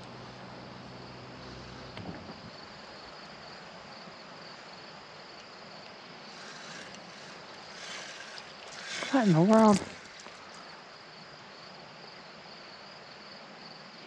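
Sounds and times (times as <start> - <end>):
soft hiss: 0.0 - 12.5
crickets chirring: 0.0 - 14.0.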